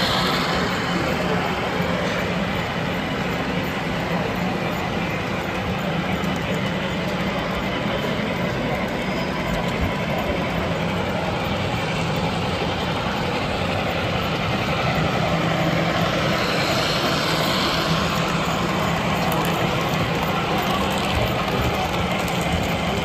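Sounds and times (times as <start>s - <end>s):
dense rushing noise: 0.0s - 7.7s, 9.3s - 23.0s
model train running on track: 0.0s - 23.0s
steady low hum: 0.0s - 23.0s.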